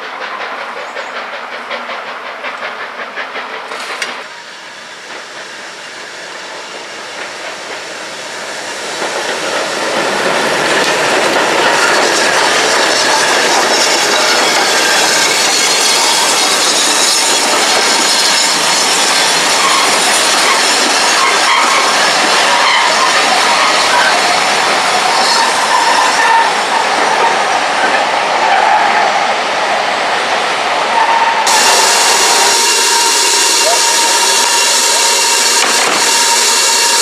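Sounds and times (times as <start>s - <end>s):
steam hiss: 0.0s - 28.4s, 29.3s - 37.0s
train wheels clicking on rails: 0.0s - 37.0s.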